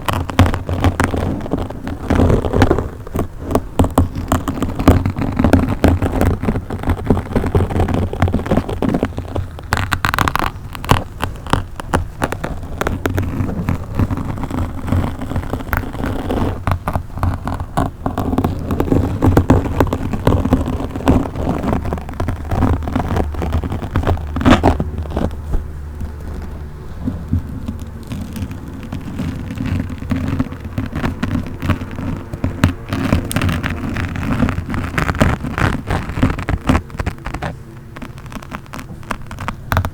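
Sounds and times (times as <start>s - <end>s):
fingers scratching on microphone: 0.0s - 39.9s.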